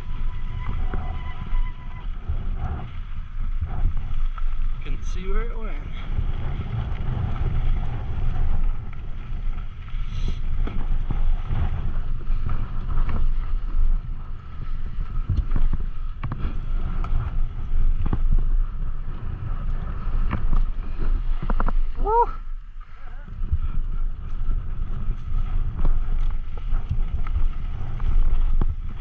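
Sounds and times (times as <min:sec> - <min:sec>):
mountain bike rattling over rocks: 0:00.0 - 0:22.1, 0:23.3 - 0:29.0
wind buffeting microphone: 0:00.0 - 0:29.0.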